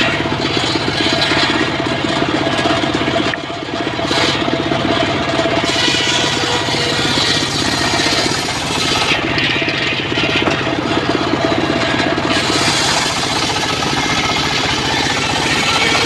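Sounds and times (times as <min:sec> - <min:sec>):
sawmill blade ripping log: 0:00.0 - 0:16.0.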